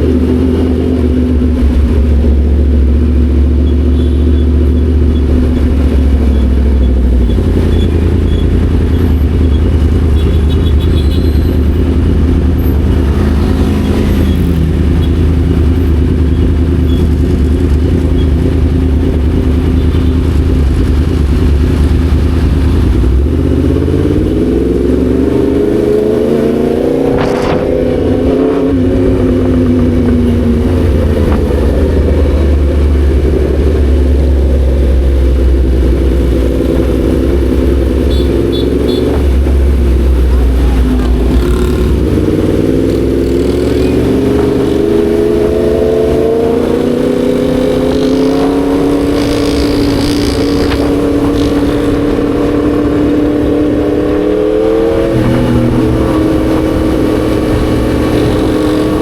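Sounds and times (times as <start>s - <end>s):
motorcycle engine running: 0.0s - 54.2s.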